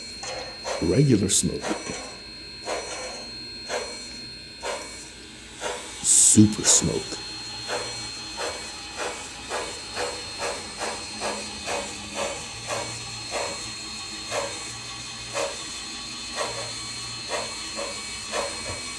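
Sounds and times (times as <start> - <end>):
steam locomotive chuffing: 0.0 - 18.9.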